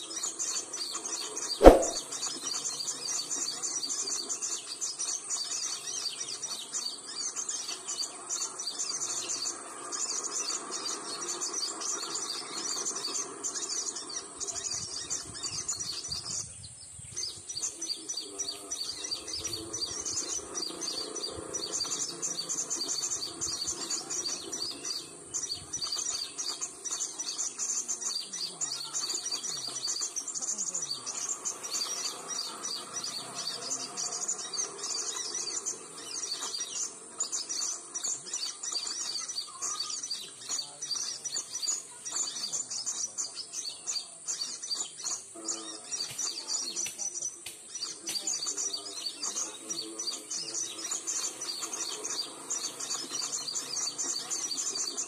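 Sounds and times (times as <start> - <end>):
recorded bird chirping and twittering: 0.0 - 55.0.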